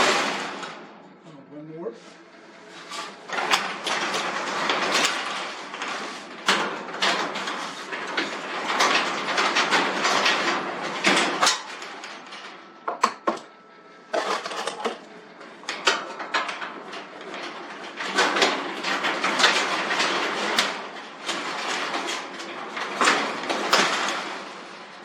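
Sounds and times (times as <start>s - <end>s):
metal scraping and rattling: 0.0s - 1.0s, 2.0s - 12.8s, 14.1s - 25.0s.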